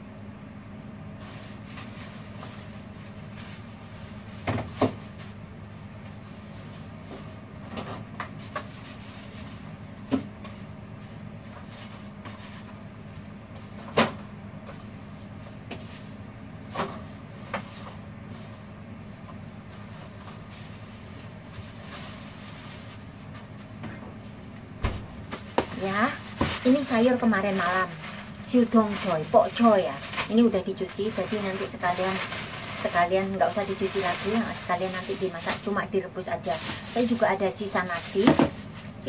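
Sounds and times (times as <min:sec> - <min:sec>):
refrigerator hum: 0:00.0 - 0:39.0.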